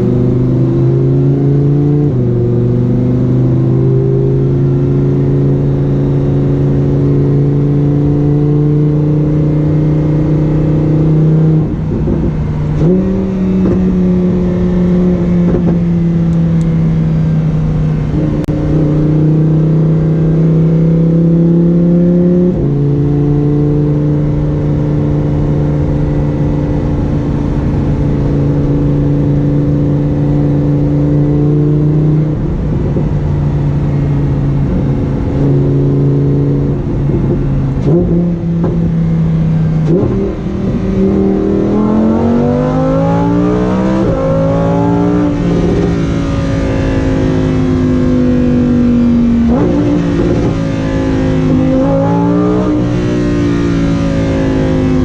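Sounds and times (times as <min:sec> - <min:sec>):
car engine running at high revs: 0:00.0 - 0:55.0.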